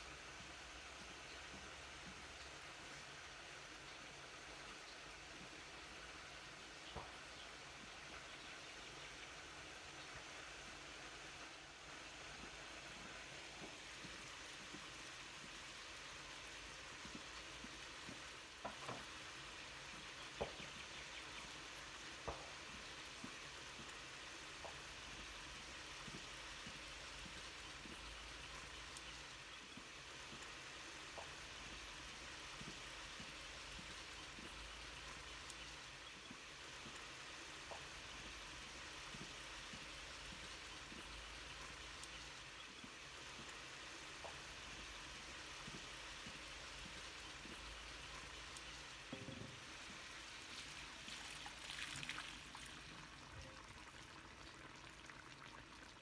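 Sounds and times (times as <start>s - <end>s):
chicken sizzling in a pan: 0.0s - 56.0s
small pops of frying: 0.0s - 56.0s.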